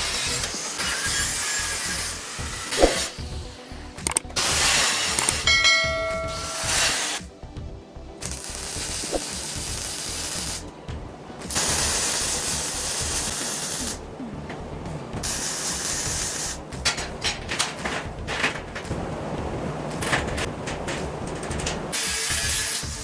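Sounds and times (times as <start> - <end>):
welding arc crackling and hissing: 0.0 - 5.5, 6.1 - 7.3, 8.2 - 23.0.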